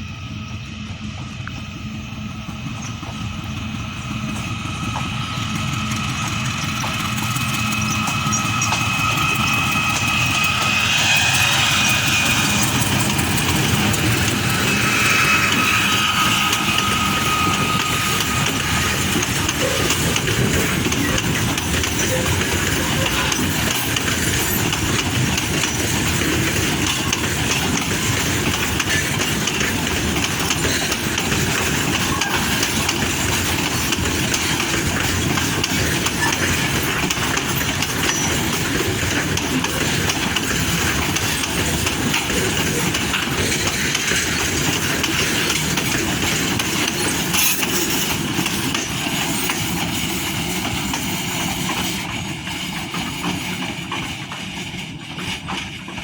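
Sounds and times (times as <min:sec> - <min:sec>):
freight train running on track: 0:00.0 - 0:56.0.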